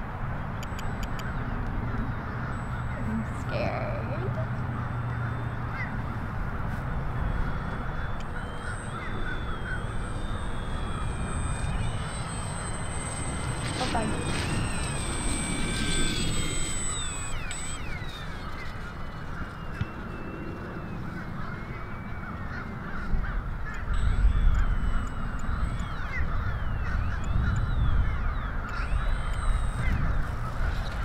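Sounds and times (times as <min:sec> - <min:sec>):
model plane motor whining: 0:00.0 - 0:31.0
wind rumble on microphone: 0:00.0 - 0:31.0.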